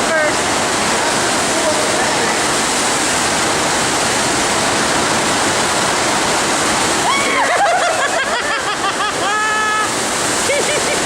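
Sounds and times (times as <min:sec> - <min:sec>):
water rushing with loud roar: 0:00.0 - 0:11.0.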